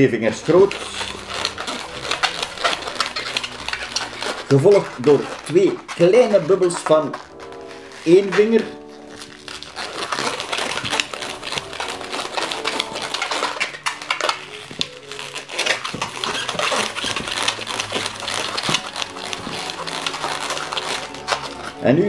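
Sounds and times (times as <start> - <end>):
balloon squeaking and creaking: 0.0 - 22.0.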